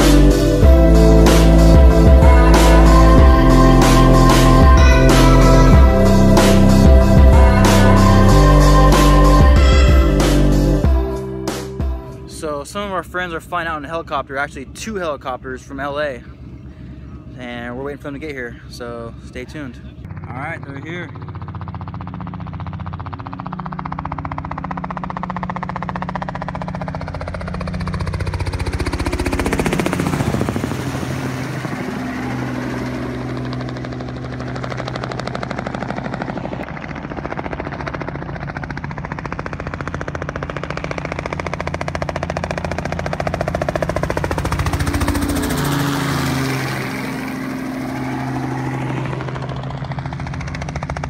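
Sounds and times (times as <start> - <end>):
helicopters flying overhead: 0.0 - 51.0.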